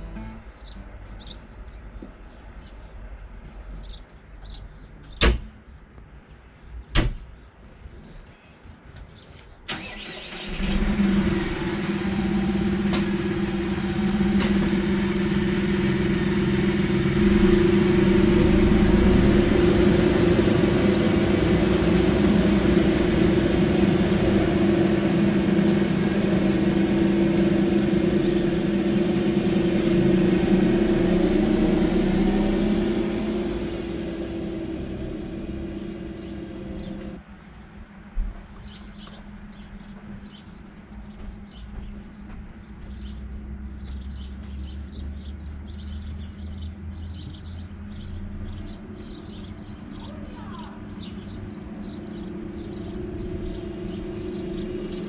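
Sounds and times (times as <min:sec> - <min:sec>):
tractor engine running: 0:00.0 - 0:04.6, 0:09.7 - 0:37.2, 0:41.0 - 0:55.0.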